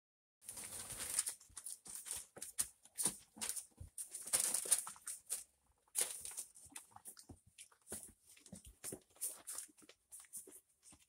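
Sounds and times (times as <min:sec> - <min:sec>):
newspaper rustling and crinkling: 0:00.4 - 0:11.0.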